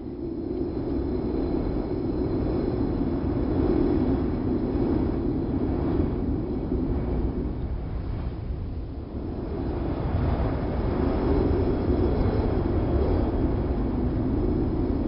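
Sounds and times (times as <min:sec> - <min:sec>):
low rush of wind: 0:00.0 - 0:15.0.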